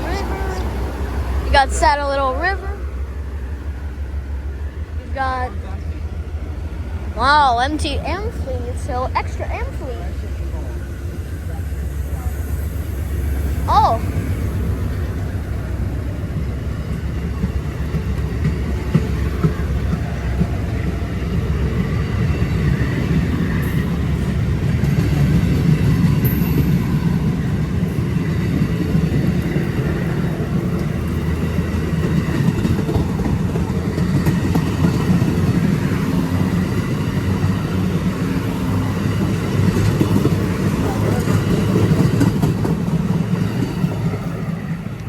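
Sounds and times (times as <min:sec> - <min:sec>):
train passing rumble: 0:00.0 - 0:45.0.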